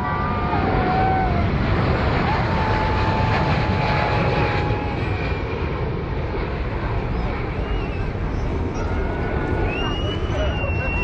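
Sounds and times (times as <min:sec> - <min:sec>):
jet engine roar at takeoff: 0:00.0 - 0:11.0.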